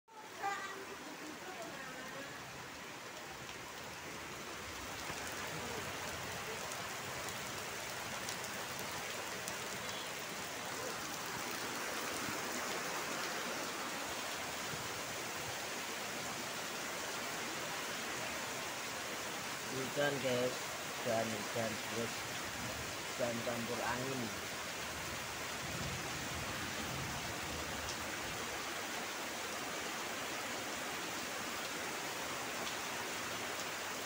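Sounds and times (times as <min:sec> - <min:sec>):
heavy rain on wet dirt: 0:00.1 - 0:34.0.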